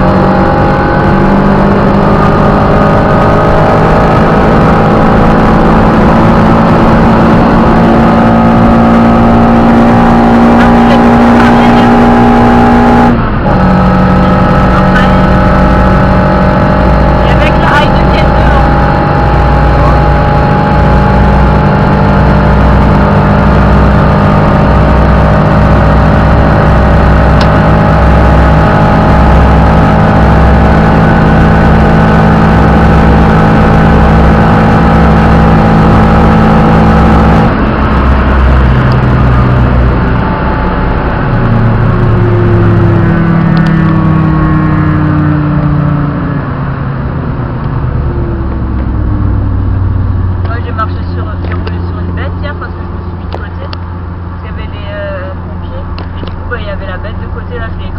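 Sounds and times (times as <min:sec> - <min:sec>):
car engine at steady revs: 0:00.0 - 0:57.9
engine note rising and falling: 0:00.0 - 0:57.9.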